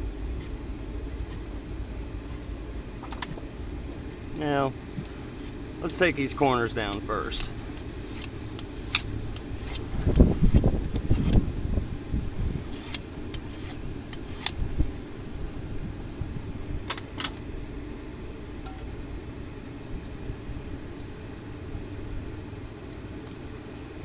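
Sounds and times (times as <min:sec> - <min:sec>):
rough low rumbling: 0:00.0 - 0:20.8
steady low hum: 0:00.0 - 0:24.0.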